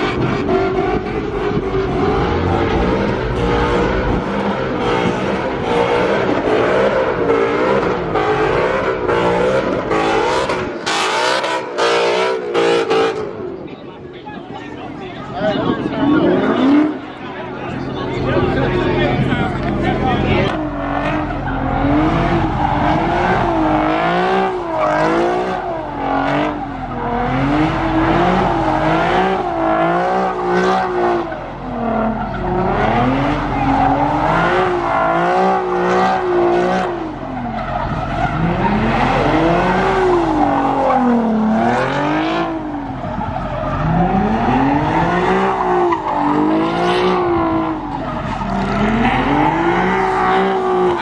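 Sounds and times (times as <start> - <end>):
tire squeal: 0.0 - 13.3, 15.2 - 51.0
car engine at high revs: 0.0 - 13.7, 15.2 - 51.0.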